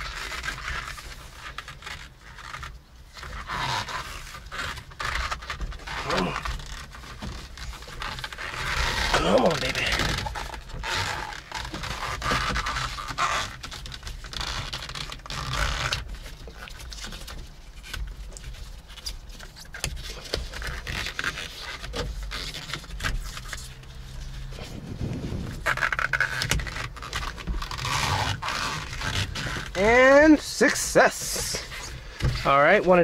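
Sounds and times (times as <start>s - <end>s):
steering wheel cover scraping: 0.0s - 33.0s.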